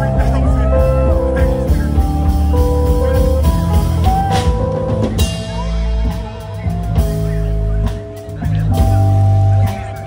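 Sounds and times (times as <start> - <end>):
live band music: 0.0 - 10.0.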